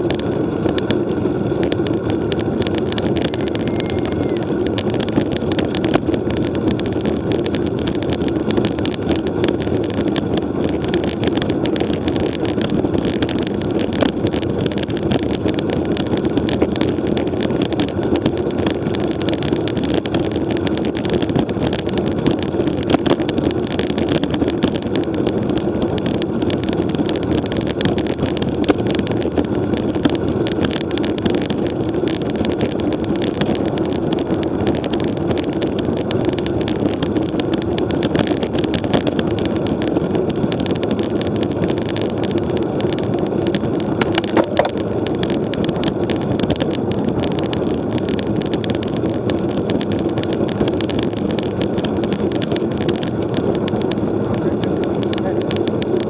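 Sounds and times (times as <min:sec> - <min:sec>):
bike clicks and rattles: 0:00.0 - 0:56.0
tyres humming on road: 0:00.0 - 0:56.0
wind on microphone: 0:00.0 - 0:56.0.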